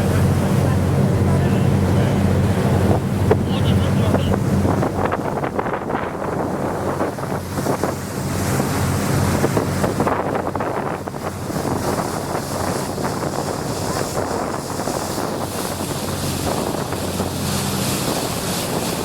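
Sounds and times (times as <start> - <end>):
water rushing past hull: 0.0 - 19.0
wind buffeting microphone: 0.0 - 19.0.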